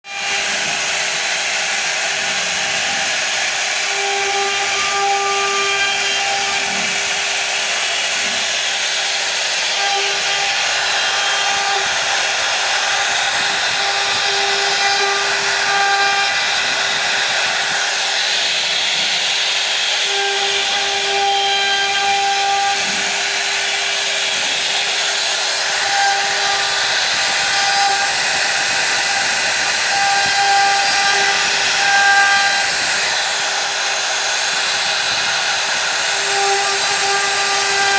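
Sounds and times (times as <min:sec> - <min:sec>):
router spindle whine: 0:00.0 - 0:37.9
bit cutting wood hiss: 0:00.2 - 0:37.9.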